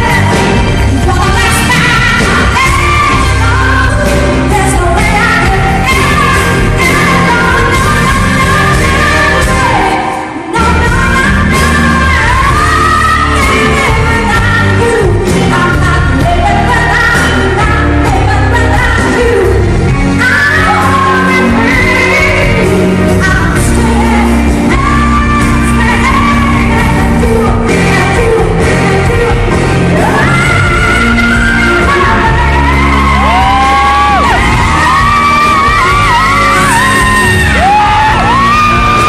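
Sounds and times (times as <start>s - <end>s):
live pop band playing: 0.0s - 39.0s.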